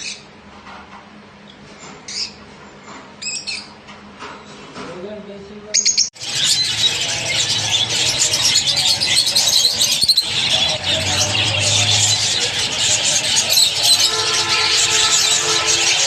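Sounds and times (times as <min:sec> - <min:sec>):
birds chattering: 0:01.5 - 0:04.6, 0:05.6 - 0:16.0.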